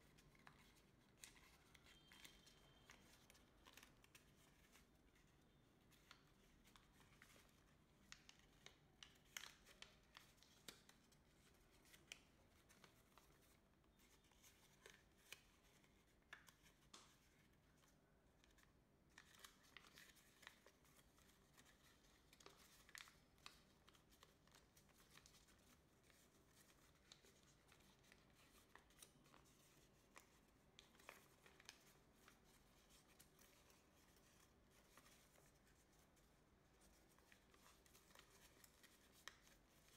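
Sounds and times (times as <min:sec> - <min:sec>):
paper being folded and creased: 0:00.0 - 0:39.9.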